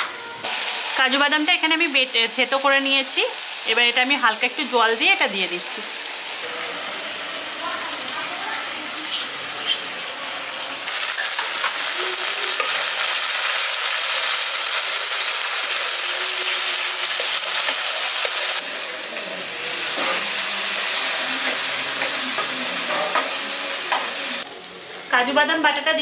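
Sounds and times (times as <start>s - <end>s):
sauce sizzling in a pan: 0.4s - 26.0s.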